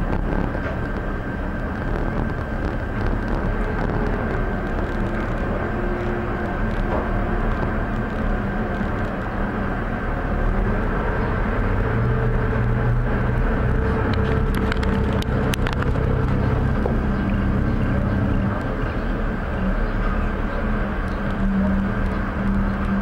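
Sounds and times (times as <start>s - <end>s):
cable car cabin rumble: 0.0s - 23.0s.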